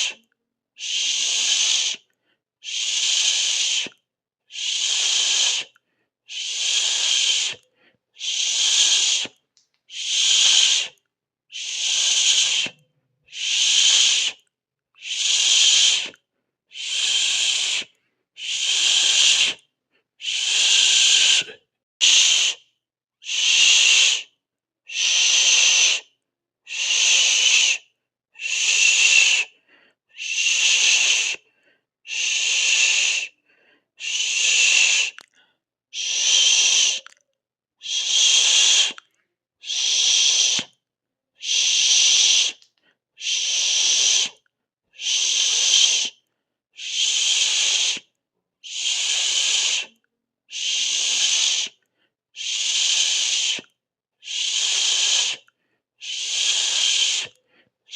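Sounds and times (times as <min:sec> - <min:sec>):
person hissing through teeth: 0:00.0 - 0:07.6, 0:08.2 - 0:31.5, 0:32.1 - 0:33.4, 0:34.0 - 0:35.3, 0:36.0 - 0:37.2, 0:37.8 - 0:40.8, 0:41.4 - 0:44.4, 0:45.0 - 0:46.2, 0:46.8 - 0:51.8, 0:52.4 - 0:57.9.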